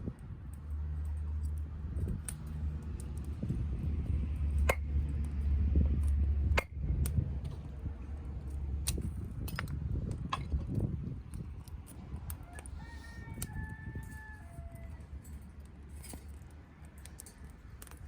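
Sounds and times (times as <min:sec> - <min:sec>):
wood fire crackling and popping: 0:00.0 - 0:12.4, 0:15.5 - 0:18.0
low rumble of stove: 0:00.0 - 0:18.0.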